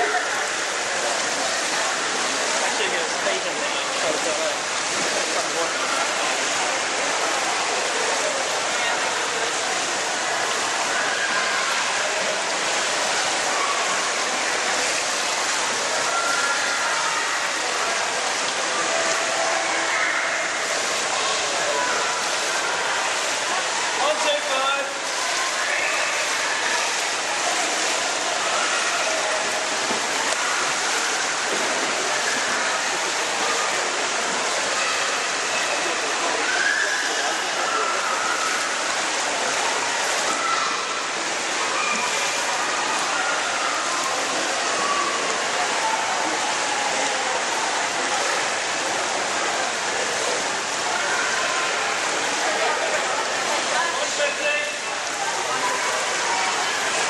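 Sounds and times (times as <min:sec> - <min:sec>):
faint voices: 0:00.0 - 0:57.0
running water rushing: 0:00.0 - 0:57.0.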